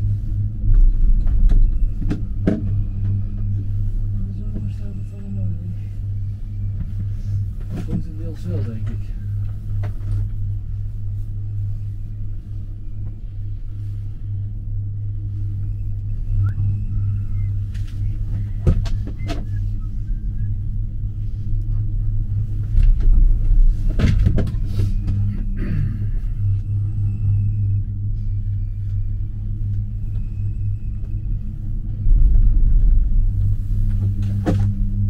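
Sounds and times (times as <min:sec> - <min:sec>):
gondola cabin rumble and hum: 0:00.0 - 0:35.0.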